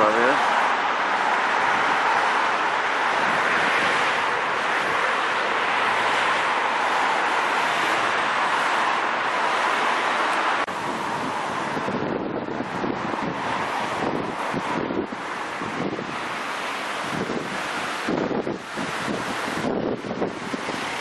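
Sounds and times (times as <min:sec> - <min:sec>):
street traffic passing: 0:00.0 - 0:21.0.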